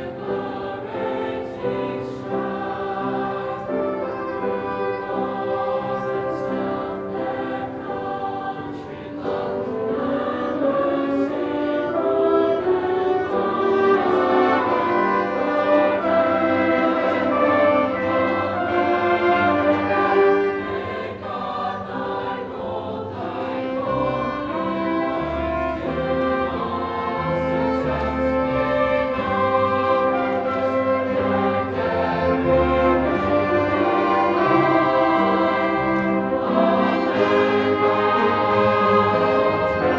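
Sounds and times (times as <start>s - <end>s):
instrumental ensemble: 0.0s - 39.9s
mixed choir singing: 0.0s - 39.9s.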